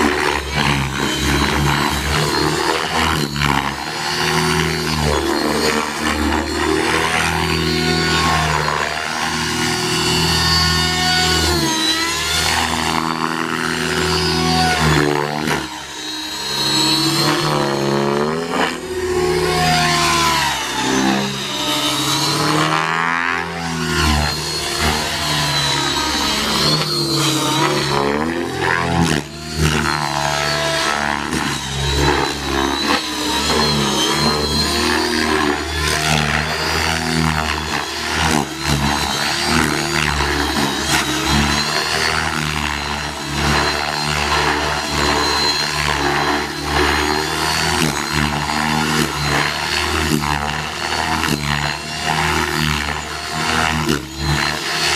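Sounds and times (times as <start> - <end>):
model helicopter rotor and motor whine: 0.0 - 54.9.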